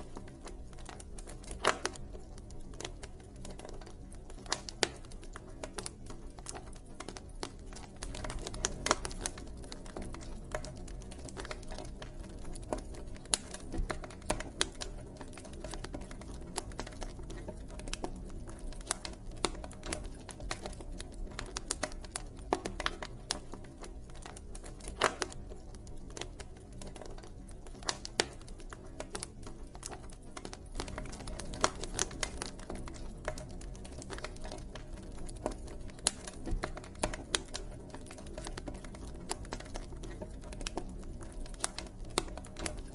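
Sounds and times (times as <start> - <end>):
low rumble of flames: 0.0 - 42.9
wood crackling and popping: 0.0 - 42.9.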